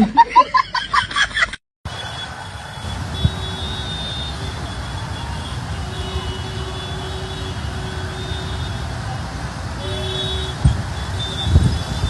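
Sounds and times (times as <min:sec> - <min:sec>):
traffic engine rumble: 0:01.9 - 0:12.0.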